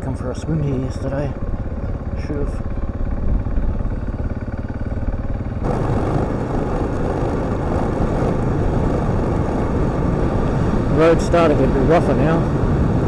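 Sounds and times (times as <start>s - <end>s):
motorcycle engine running: 0.0s - 13.0s
wind and tyre noise: 0.0s - 13.0s.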